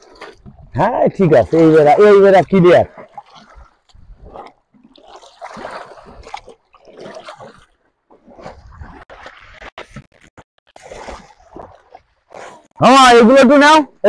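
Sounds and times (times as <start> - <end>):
splashing of shallow water and mud: 0.0 - 12.7.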